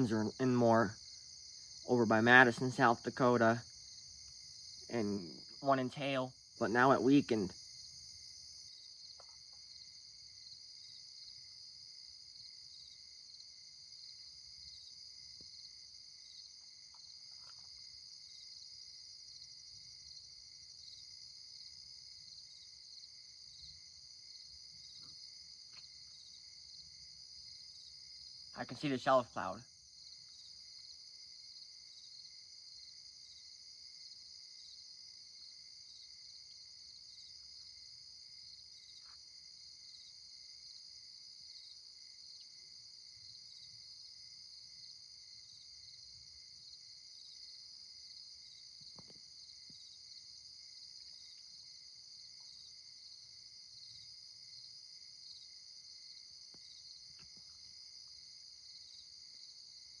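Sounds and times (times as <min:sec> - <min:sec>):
crickets and insects trilling: 0:00.0 - 1:00.0.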